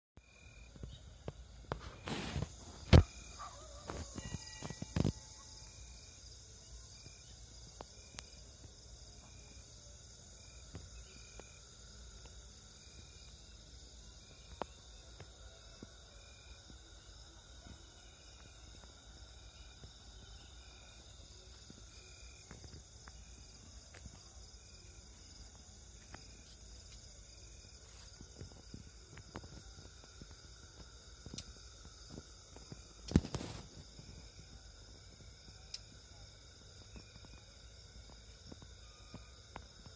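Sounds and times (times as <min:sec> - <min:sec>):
crickets trilling: 0:00.2 - 0:39.9
short insect chirp: 0:00.2 - 0:39.9.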